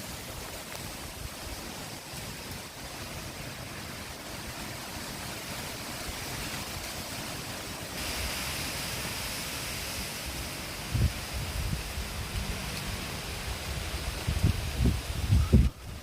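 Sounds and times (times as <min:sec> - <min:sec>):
wind blowing: 0:00.0 - 0:16.0.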